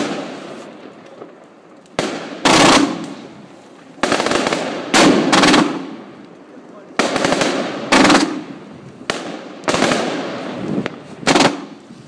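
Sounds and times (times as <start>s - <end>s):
firework crackling: 0.0s - 12.0s
firework reports: 0.0s - 12.0s.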